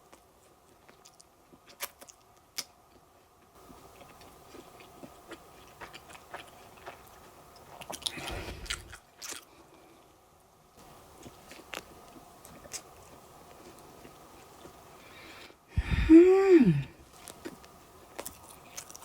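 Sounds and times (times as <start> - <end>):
person chewing: 0.0 - 3.0, 3.6 - 9.7, 10.8 - 15.4, 17.0 - 19.0.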